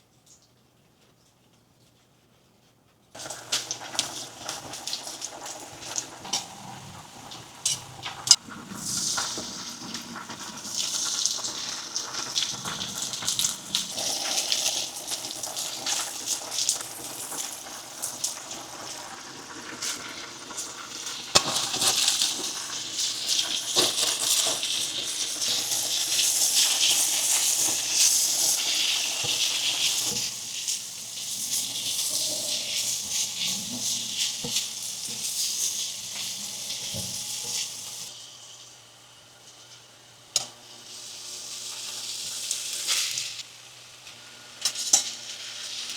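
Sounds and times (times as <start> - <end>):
food sizzling in a pan: 3.2 - 45.9.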